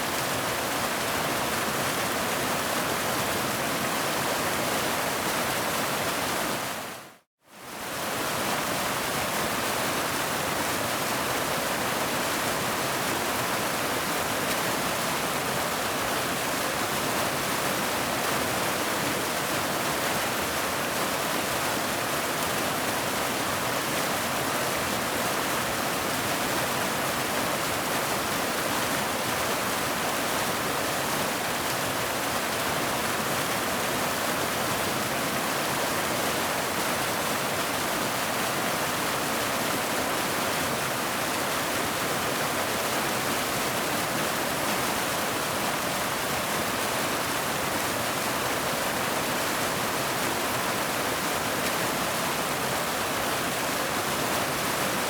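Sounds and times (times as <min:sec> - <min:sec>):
waterfall rushing: 0:09.5 - 0:55.0.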